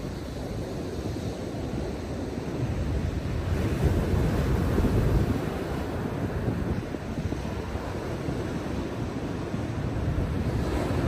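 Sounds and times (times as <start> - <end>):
ocean surf breaking on shore: 0.0 - 11.0.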